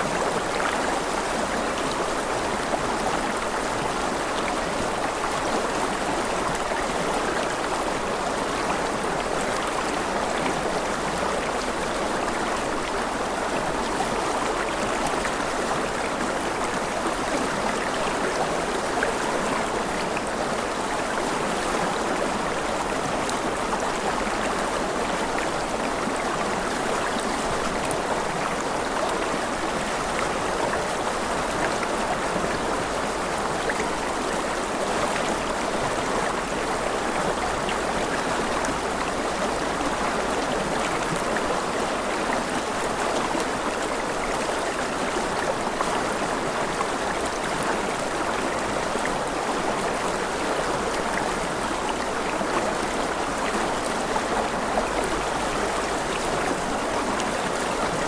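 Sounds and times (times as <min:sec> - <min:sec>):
flowing stream water: 0:00.0 - 0:58.0.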